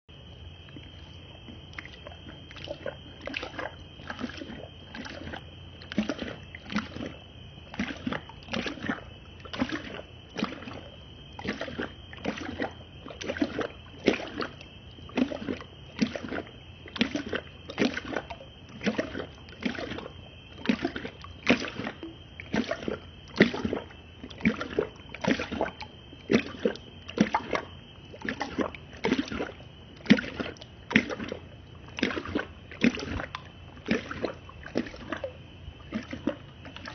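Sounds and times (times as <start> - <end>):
dog lapping water: 0.5 - 36.9.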